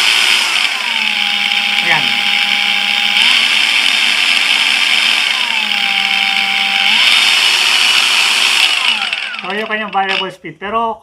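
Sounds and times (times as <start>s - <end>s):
angle grinder motor whine: 0.0s - 10.2s.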